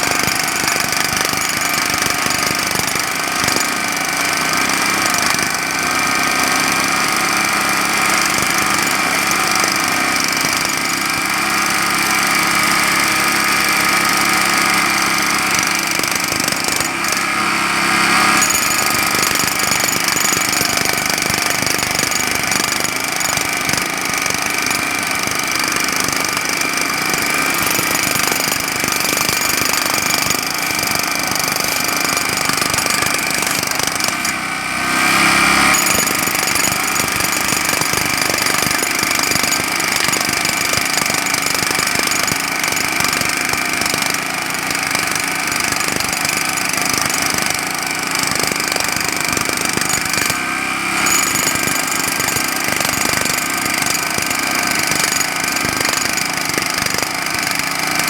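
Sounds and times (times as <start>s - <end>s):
jackhammer breaking pavement: 0.0s - 58.0s.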